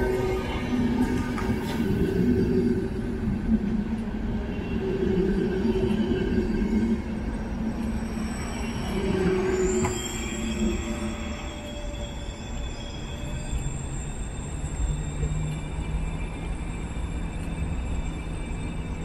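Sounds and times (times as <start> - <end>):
train coaches rolling on rails: 0.0 - 19.0.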